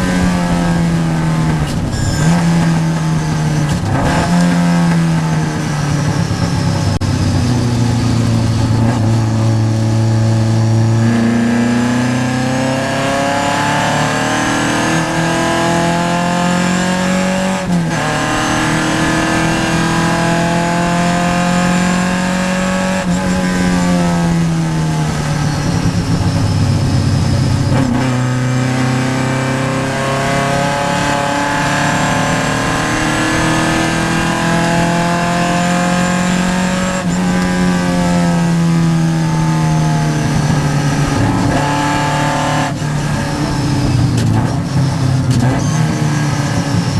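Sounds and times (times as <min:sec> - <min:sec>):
race car engine revving through gears: 0:00.0 - 0:46.9.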